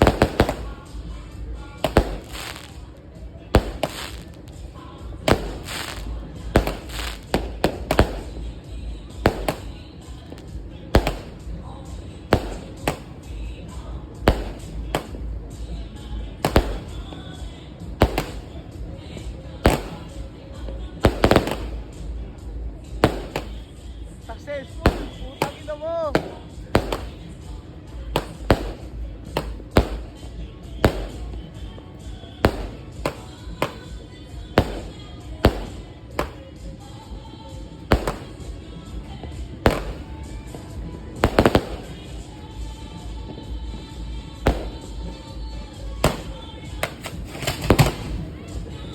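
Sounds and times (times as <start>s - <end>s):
fireworks bangs: 0.0s - 22.2s, 22.8s - 48.9s.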